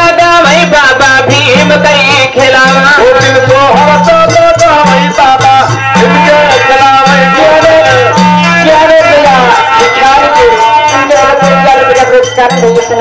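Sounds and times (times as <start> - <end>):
dholak drumming: 0.0 - 13.0
folk dance music: 0.0 - 13.0.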